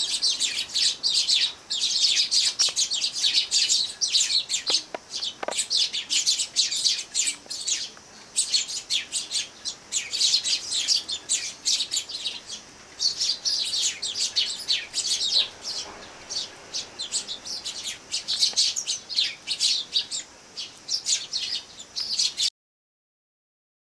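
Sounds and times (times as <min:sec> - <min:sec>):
flock of sparrows chirping: 0:00.0 - 0:22.5.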